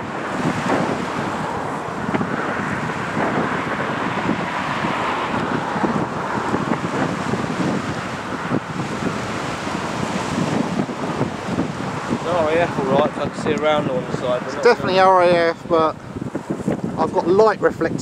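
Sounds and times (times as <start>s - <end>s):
turboprop engines running: 0.0s - 18.0s
wind buffeting microphone: 0.0s - 18.0s.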